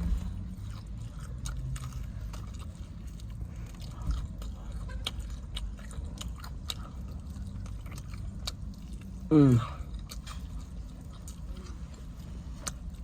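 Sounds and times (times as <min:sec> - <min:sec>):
chewing crunchy fried chicken: 0:00.0 - 0:13.0.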